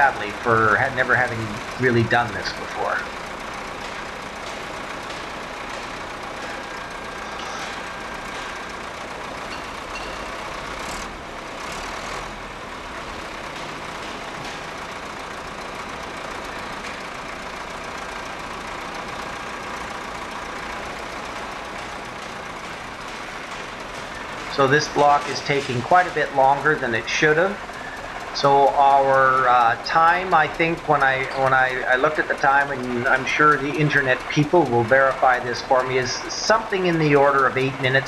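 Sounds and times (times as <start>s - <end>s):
heavy diesel machinery running: 0.0s - 38.0s.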